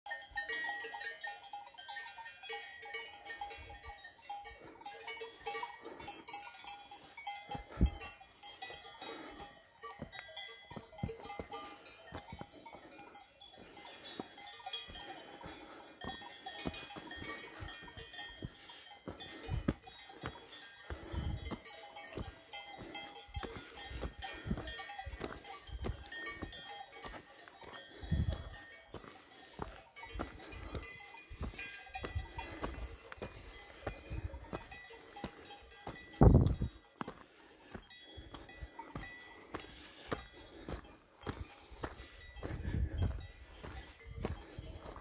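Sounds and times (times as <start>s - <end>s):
livestock bells ringing: 0.1s - 45.0s
footsteps on rocky trail: 6.9s - 45.0s.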